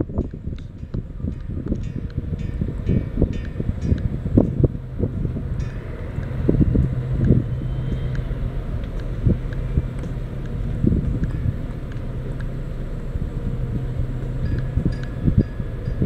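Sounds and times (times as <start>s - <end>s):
road rumble: 0.0s - 16.0s
vehicle engine hum: 0.0s - 16.0s.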